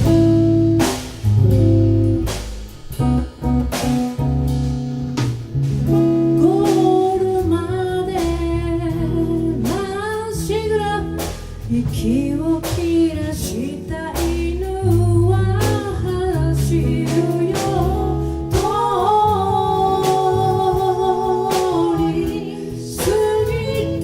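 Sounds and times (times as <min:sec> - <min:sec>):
live band playing: 0:00.0 - 0:24.0.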